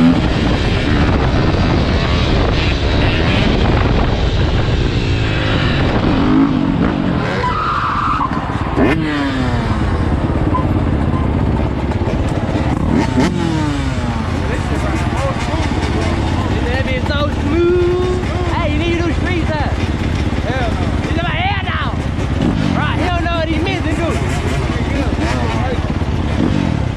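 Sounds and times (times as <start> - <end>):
dirt bike engines revving past: 0.0 - 26.9.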